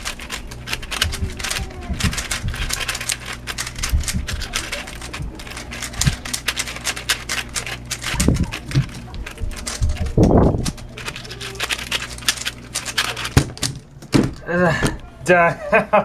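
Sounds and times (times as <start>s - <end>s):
speed cube clicking: 0.0s - 14.3s.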